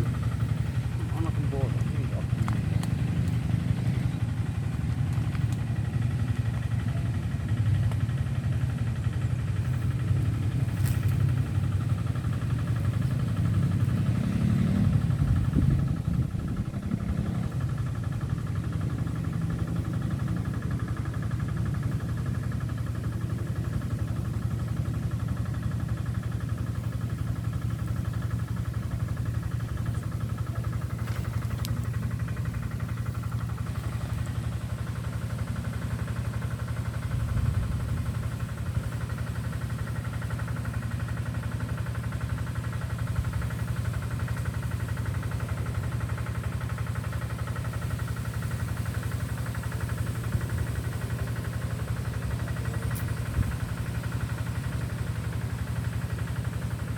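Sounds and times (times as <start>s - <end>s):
engine idling: 0.0s - 56.9s.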